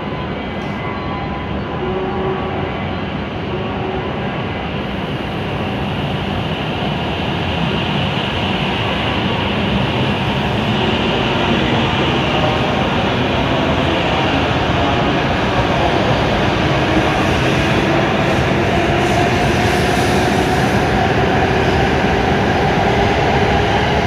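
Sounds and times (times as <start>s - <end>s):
train running noise: 0.0s - 24.0s.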